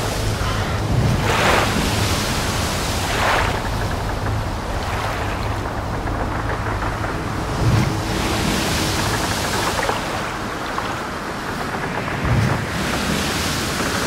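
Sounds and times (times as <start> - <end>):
low rumble: 0.0 - 14.0
steady rushing noise: 0.0 - 14.0.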